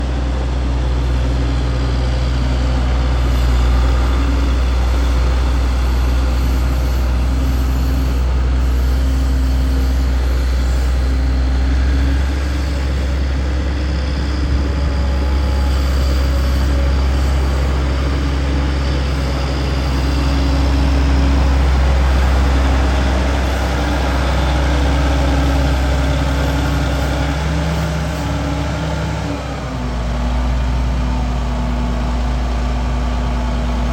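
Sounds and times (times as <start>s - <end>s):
diesel tractor engine humming: 0.0s - 33.9s.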